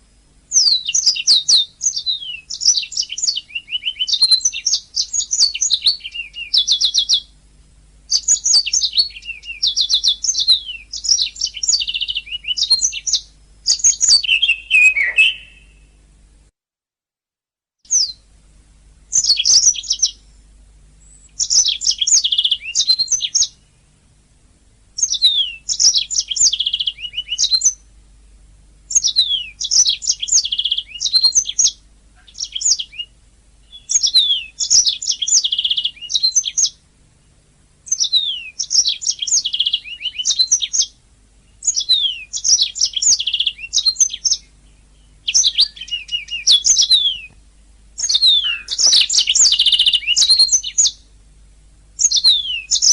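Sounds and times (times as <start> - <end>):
faint low hum: 0.0 - 16.5, 17.9 - 52.9
canary singing: 0.5 - 7.4, 8.1 - 16.0, 17.9 - 18.3, 19.1 - 20.4, 21.0 - 23.9, 25.0 - 27.9, 28.9 - 36.8, 37.8 - 47.4, 48.0 - 51.1, 52.0 - 52.9.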